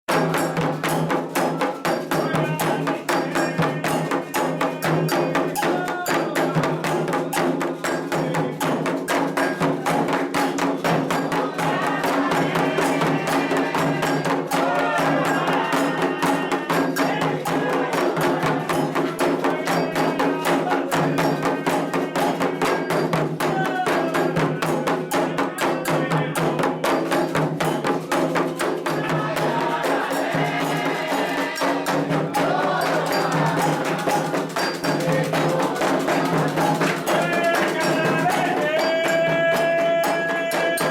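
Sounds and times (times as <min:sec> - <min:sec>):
fast hand drumming: 0:00.1 - 0:40.9
metallic striking beat: 0:00.1 - 0:40.9
people singing: 0:00.1 - 0:40.9.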